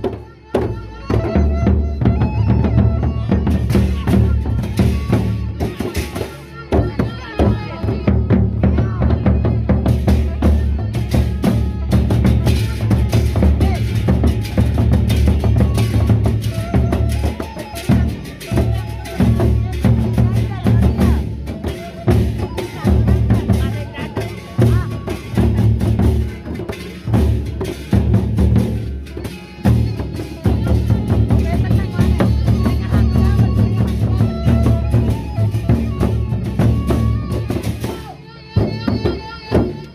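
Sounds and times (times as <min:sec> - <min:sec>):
barrel drums beaten fast: 0:01.1 - 0:39.9.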